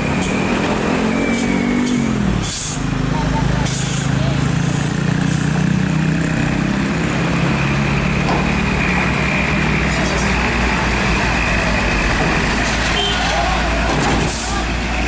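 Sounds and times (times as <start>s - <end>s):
dump truck diesel engine: 0.0s - 15.0s.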